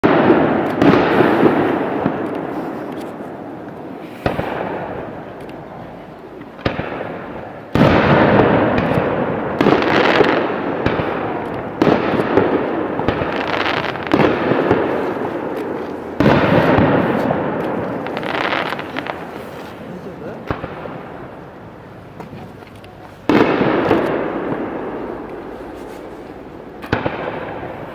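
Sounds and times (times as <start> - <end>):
fireworks bangs and crackle: 0.0 - 27.9.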